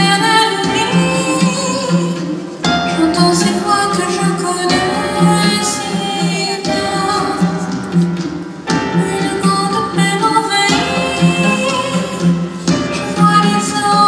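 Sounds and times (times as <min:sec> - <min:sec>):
person singing: 0:00.0 - 0:08.0, 0:08.8 - 0:14.0.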